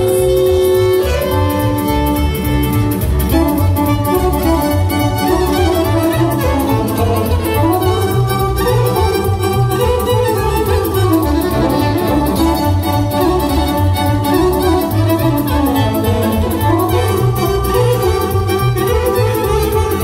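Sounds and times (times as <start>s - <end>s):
bass and drum beat: 0.0s - 20.0s
violin melody: 0.0s - 20.0s.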